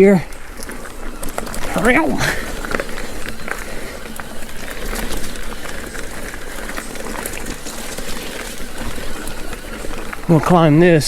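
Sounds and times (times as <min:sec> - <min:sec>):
bike clicks and rattles: 0:00.0 - 0:11.0
bike tyres rustling on dirt: 0:00.0 - 0:11.0.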